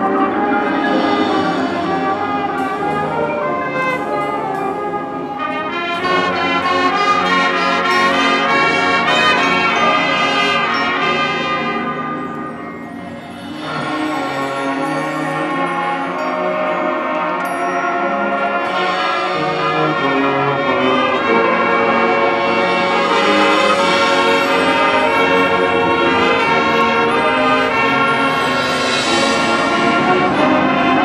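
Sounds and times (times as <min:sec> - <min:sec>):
marching band playing: 0:00.0 - 0:31.0.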